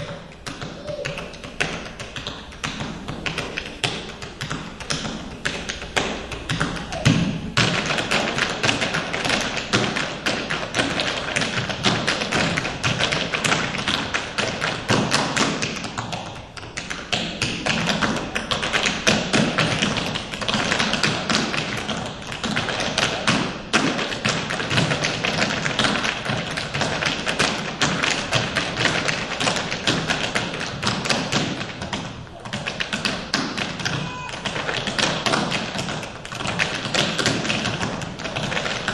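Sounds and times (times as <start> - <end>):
tap shoes on stage floor: 0.0 - 38.9.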